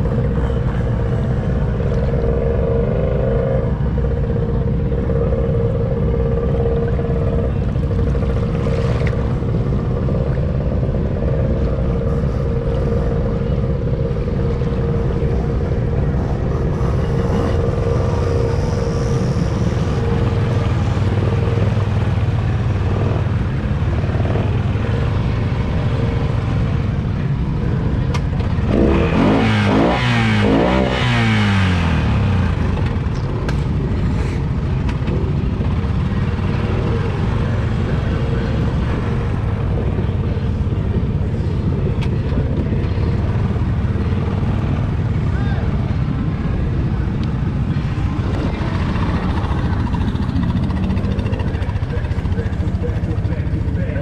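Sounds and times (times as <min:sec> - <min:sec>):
engine revving: 0:00.0 - 0:54.0
quad engine running: 0:00.0 - 0:54.0.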